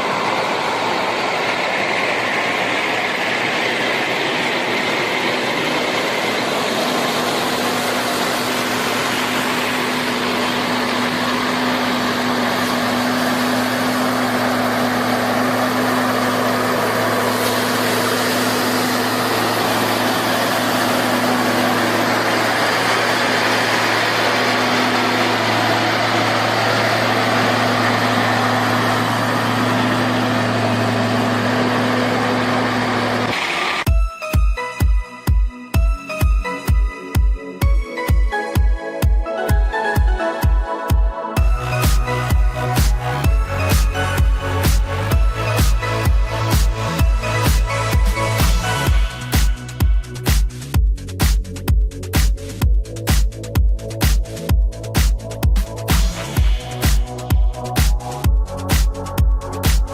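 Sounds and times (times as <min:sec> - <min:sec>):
heavy machine engine droning: 0:00.0 - 0:33.9, 0:41.3 - 0:59.9.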